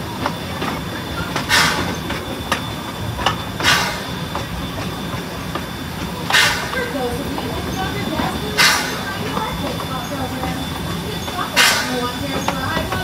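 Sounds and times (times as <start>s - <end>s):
steam train rumbling: 0.0s - 13.0s
wheels clicking: 0.0s - 13.0s
steam hissing bursts: 1.3s - 12.7s.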